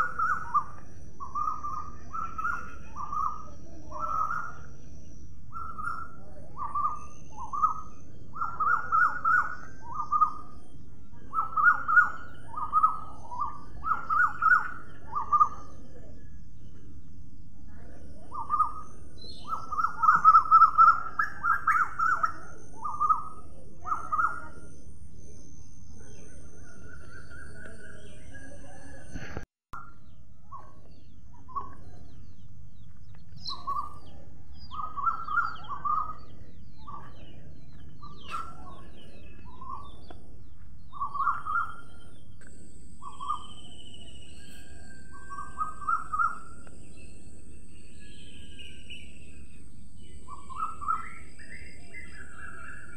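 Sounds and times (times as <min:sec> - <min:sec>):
birds chirping: 0:00.0 - 0:52.9.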